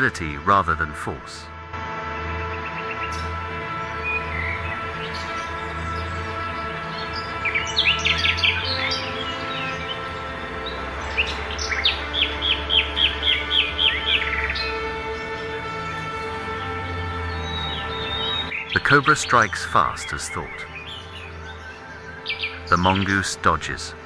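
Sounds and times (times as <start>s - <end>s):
sustained music drone: 0.0s - 24.0s
bird song: 2.0s - 24.0s.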